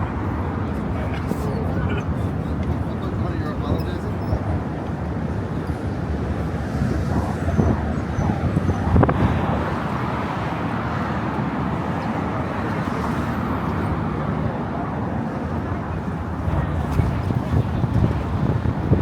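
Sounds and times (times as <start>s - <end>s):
car traffic noise: 0.0s - 19.0s.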